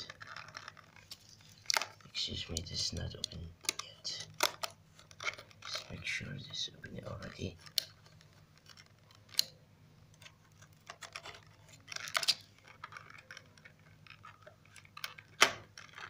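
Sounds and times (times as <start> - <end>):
cardboard and plastic rustling: 0.0 - 9.4, 10.2 - 16.0.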